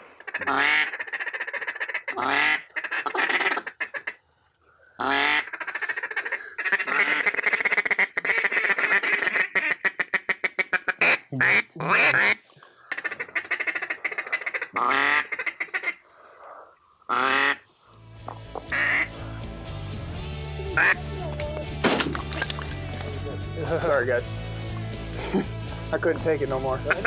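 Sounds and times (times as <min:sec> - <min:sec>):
ducks chattering calls: 0:00.0 - 0:04.2, 0:04.8 - 0:27.0
ducks quacking: 0:00.0 - 0:04.2, 0:04.9 - 0:19.5, 0:20.3 - 0:27.0.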